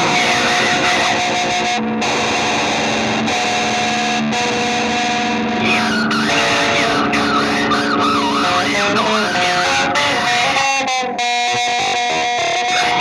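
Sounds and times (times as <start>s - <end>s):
distorted electric guitar: 0.0s - 13.0s
wavering bending guitar line: 0.0s - 13.0s.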